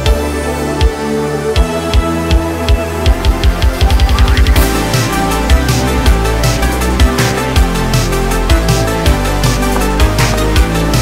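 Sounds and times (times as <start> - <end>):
electronic music with heavy kick drum: 1.6 - 11.0
sustained bass: 1.6 - 11.0.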